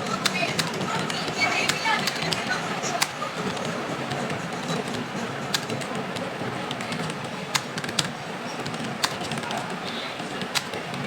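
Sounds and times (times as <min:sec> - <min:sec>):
sharp clicks: 0:00.0 - 0:11.0
steady noisy background: 0:00.0 - 0:11.0.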